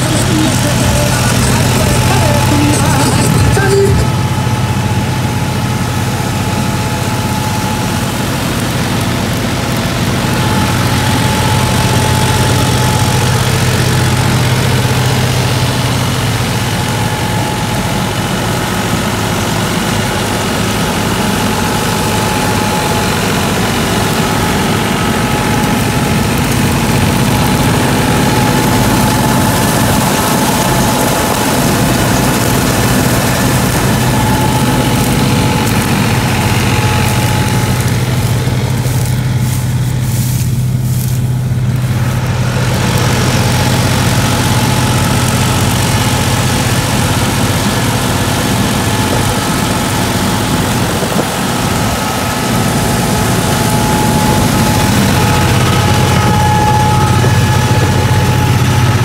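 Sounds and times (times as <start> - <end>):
reaper machinery running: 0.0 - 59.0
tractor diesel engine running: 0.0 - 59.0.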